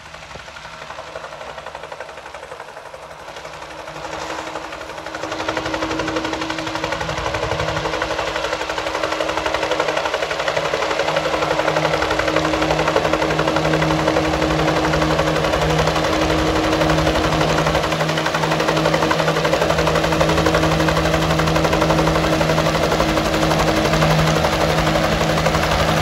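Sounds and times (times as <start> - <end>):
helicopter rotor beating: 0.0 - 26.0
steady drone: 0.0 - 26.0.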